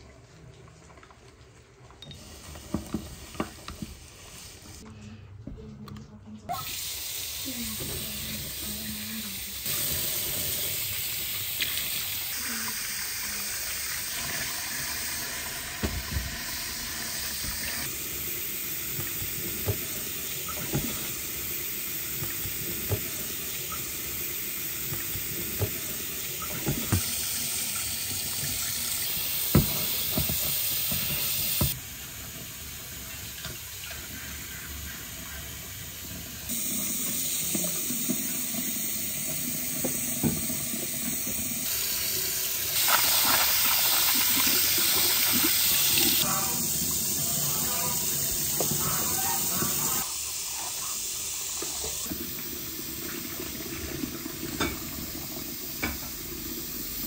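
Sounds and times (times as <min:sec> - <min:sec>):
water running from a tap: 0:02.1 - 0:04.8, 0:06.5 - 0:57.0.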